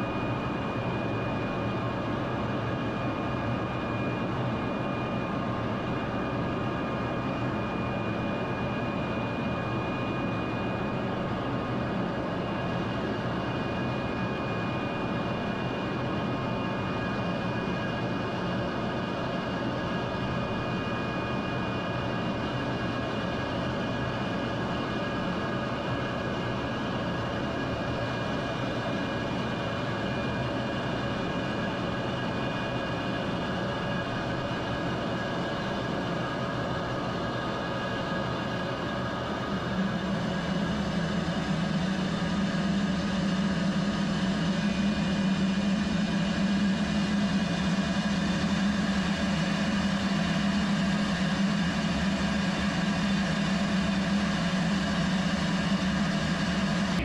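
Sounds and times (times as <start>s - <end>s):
jet engine and airflow noise: 0.0s - 57.0s.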